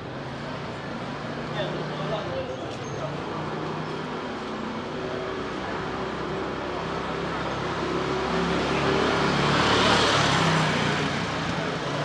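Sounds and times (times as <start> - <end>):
street ambience: 0.0 - 12.0.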